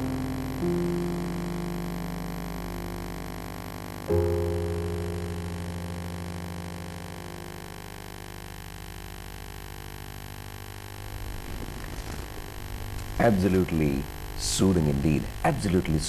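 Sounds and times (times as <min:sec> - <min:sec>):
keyboard playing low chords: 0:00.0 - 0:15.9.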